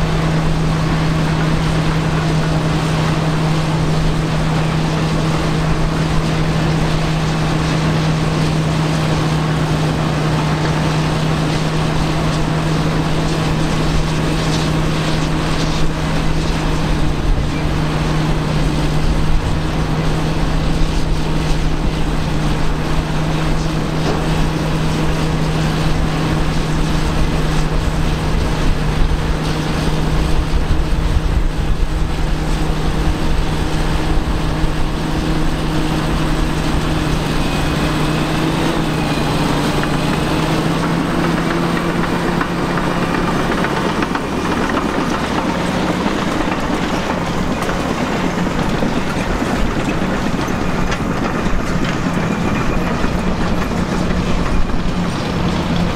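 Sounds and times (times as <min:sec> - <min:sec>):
bulldozer diesel engine droning: 0:00.0 - 0:55.9.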